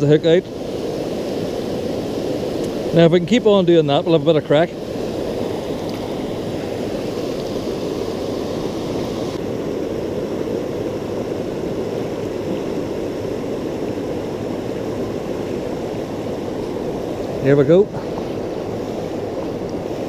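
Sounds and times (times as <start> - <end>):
river water rushing over rapids: 0.0 - 20.0.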